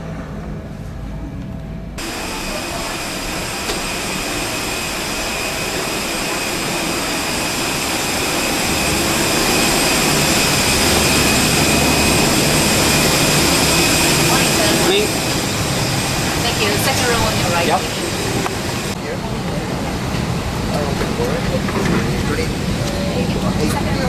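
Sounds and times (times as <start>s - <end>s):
cabin air rushing: 2.0s - 23.0s
high whining tones: 2.0s - 23.2s.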